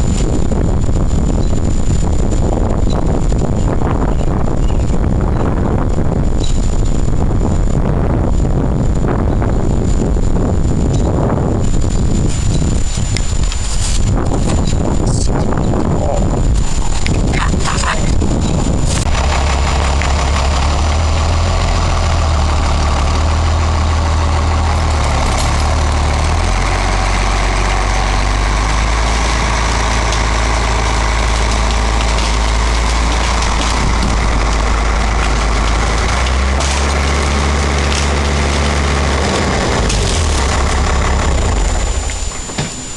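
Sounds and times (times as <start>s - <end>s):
engine rumbling: 0.0s - 42.9s.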